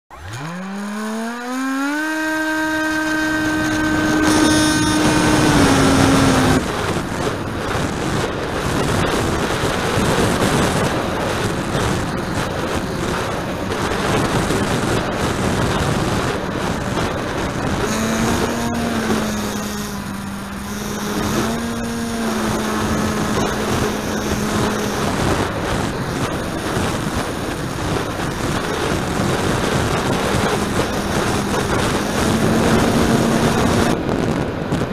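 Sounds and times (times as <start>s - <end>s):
electric motor whine: 0.1s - 34.9s
wind rushing over microphone: 0.1s - 34.9s.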